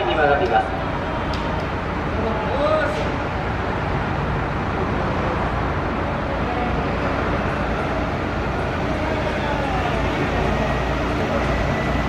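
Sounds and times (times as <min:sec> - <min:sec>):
vehicle engines and traffic rumble: 0:00.0 - 0:12.0.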